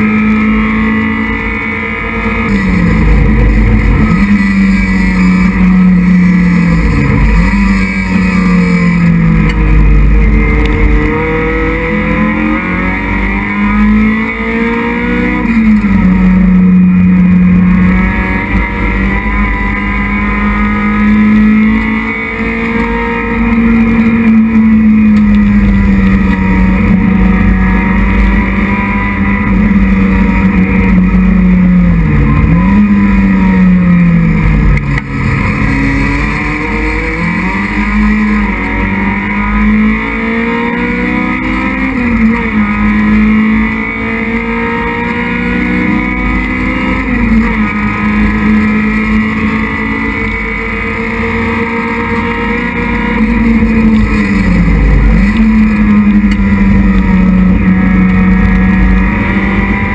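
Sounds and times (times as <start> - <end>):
race car engine from inside cabin: 0.0 - 59.9.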